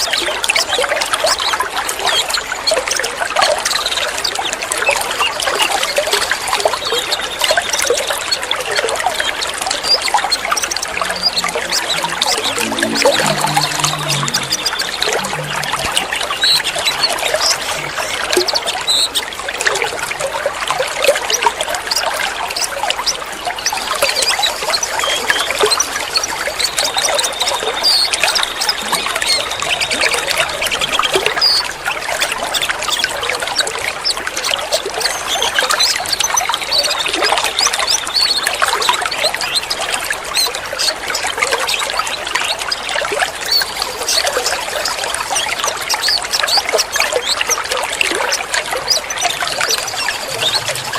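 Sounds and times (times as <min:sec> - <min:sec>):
water trickling and splashing: 0:00.0 - 0:50.9.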